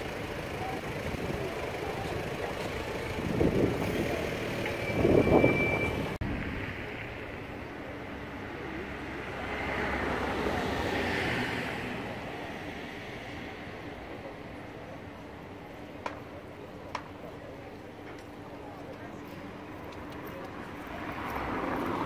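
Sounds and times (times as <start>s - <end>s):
outdoor background: 0.0s - 22.0s
vehicle engines running: 0.0s - 22.0s
vehicles passing: 0.0s - 22.0s.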